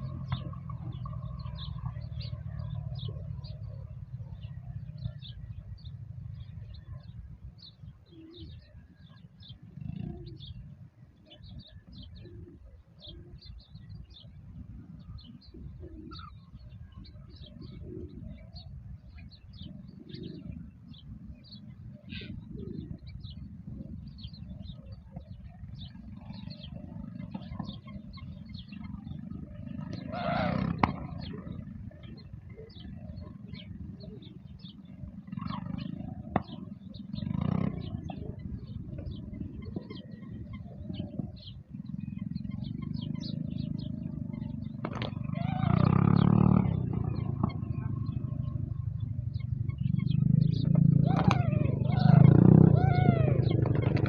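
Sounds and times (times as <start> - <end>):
birds chirping: 0.0 - 54.0
lower bird calls: 0.0 - 54.0.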